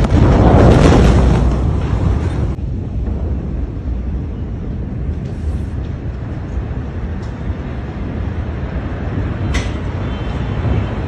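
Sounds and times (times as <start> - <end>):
low rumbling roar: 0.0 - 9.6.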